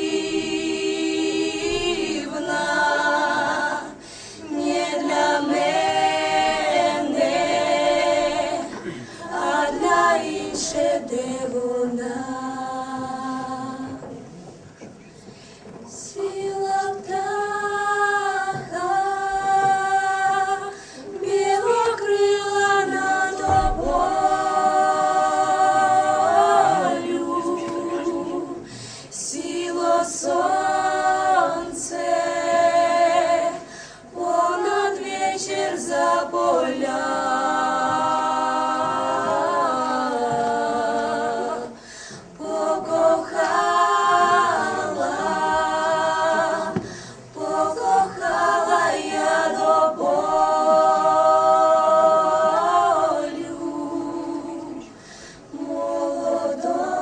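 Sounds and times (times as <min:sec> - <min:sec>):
group singing a cappella: 0:00.0 - 0:14.5, 0:15.9 - 0:57.0.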